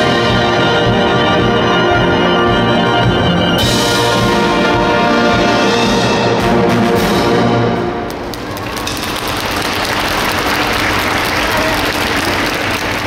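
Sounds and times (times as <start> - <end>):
wind band playing: 0.0 - 13.0.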